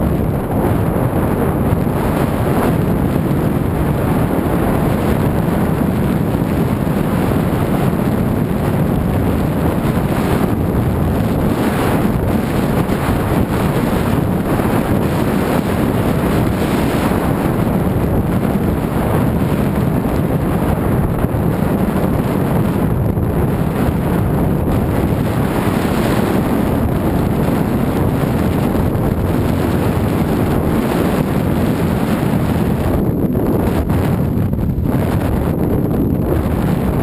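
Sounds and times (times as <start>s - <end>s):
wind noise on microphone: 0.0s - 37.0s.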